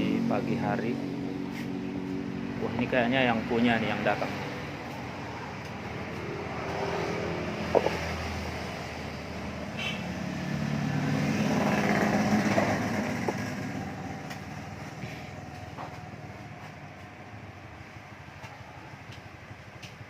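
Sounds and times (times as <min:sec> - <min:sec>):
motor vehicle passing by: 0:00.0 - 0:17.4.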